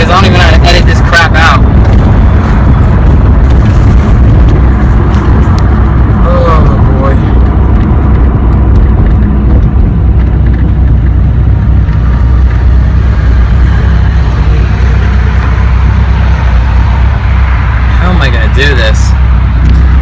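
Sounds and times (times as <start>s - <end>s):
car engine low rumble: 0.0s - 20.0s
road noise: 0.0s - 20.0s.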